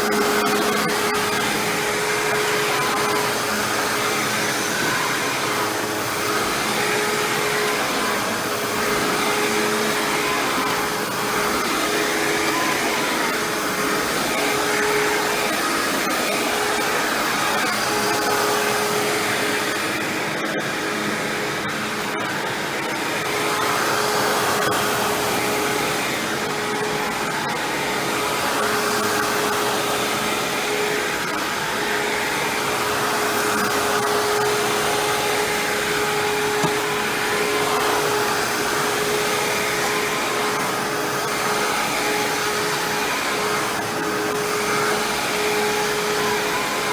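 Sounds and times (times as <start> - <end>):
upright vacuum cleaner running: 0.0 - 46.9.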